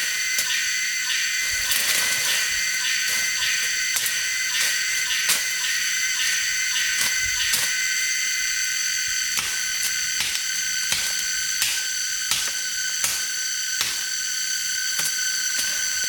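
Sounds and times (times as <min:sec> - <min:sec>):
high-pitched buzz: 0:00.0 - 0:16.0.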